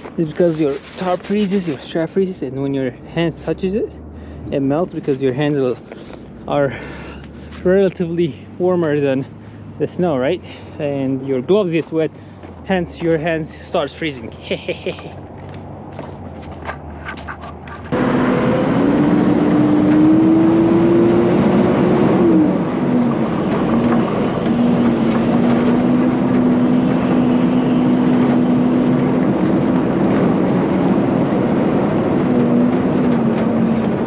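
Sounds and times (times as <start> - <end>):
engine running: 4.0 - 34.0.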